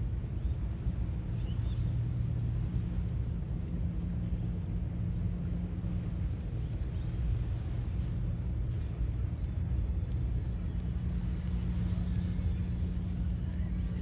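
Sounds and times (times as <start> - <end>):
faint steady hum: 0.0 - 14.0
low outdoor rumble: 0.0 - 14.0.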